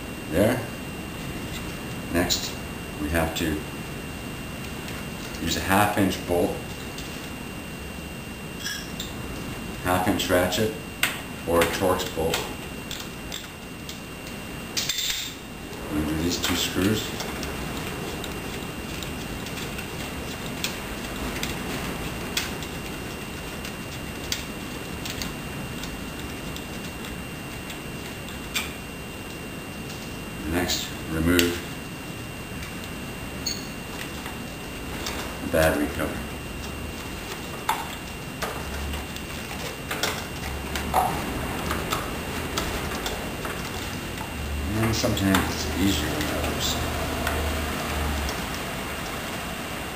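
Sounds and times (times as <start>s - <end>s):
low steady hum: 0.0s - 49.9s.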